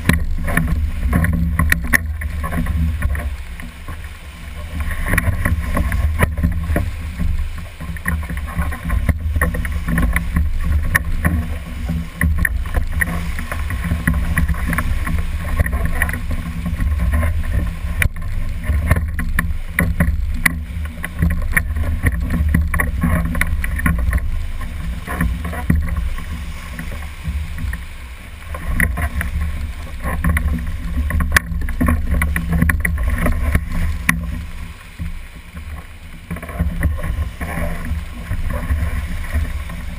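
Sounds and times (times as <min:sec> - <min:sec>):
low rumble on microphone: 0:00.0 - 0:39.9
water splashes: 0:00.0 - 0:39.9
whitewater rushing: 0:00.0 - 0:39.9.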